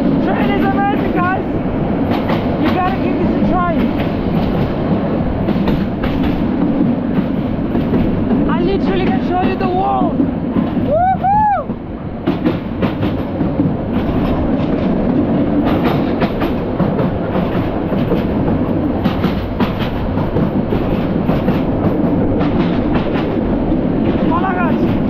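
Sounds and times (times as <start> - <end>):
track clacks and rattles: 0.0 - 25.0
train wheels rumbling on rails: 0.0 - 25.0.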